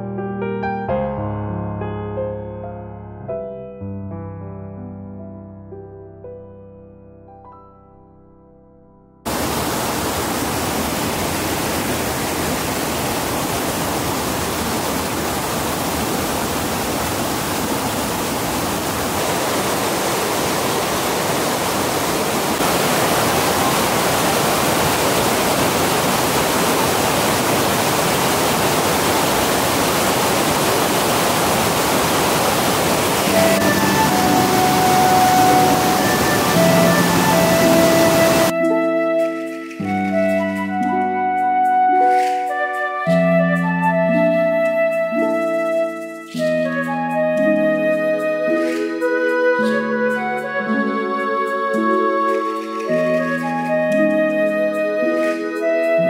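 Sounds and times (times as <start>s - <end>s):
rush of falling water: 9.3s - 56.0s.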